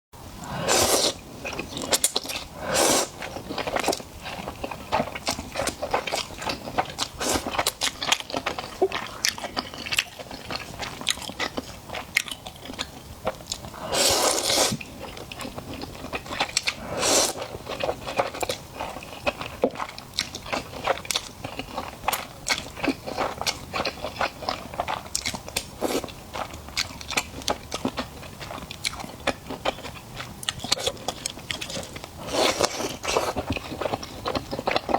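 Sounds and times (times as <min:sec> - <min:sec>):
person eating crunchy food: 0:00.4 - 0:34.9.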